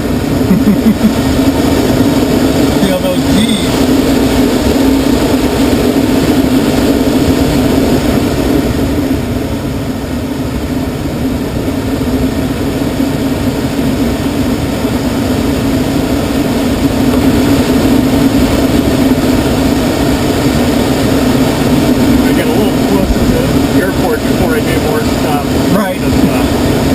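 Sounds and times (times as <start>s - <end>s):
air rushing over glider cockpit: 0.0s - 26.9s.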